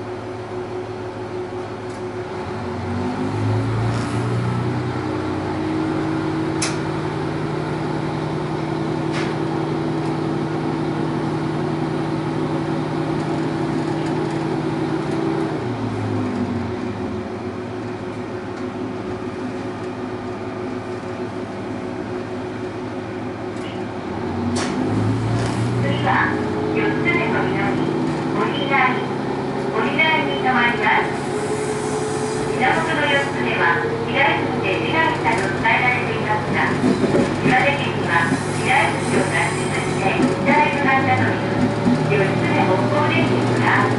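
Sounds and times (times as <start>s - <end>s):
diesel railcar engine droning: 0.0s - 43.9s.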